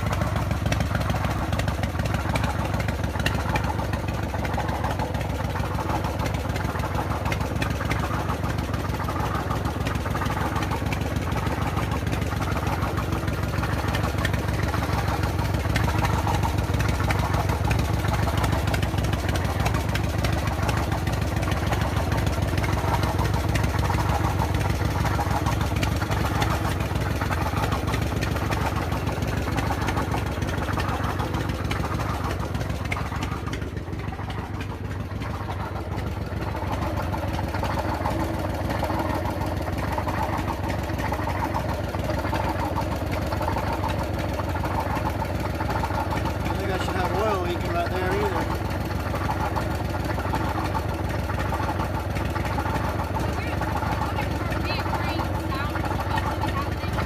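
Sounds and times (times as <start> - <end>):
mechanical engine noise: 0.0 - 57.0
motorcycle engine running: 0.0 - 57.0.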